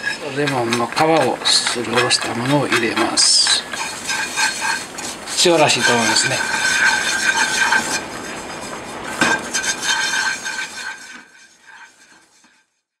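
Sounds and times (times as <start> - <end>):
chopsticks scraping a frying pan: 0.0 - 12.8.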